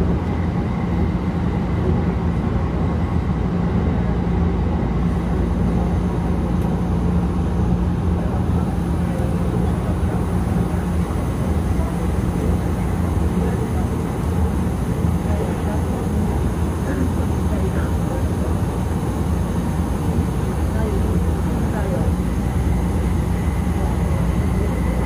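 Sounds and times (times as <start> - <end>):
steady low hum: 0.0 - 25.0
train car running rumble: 0.0 - 25.0.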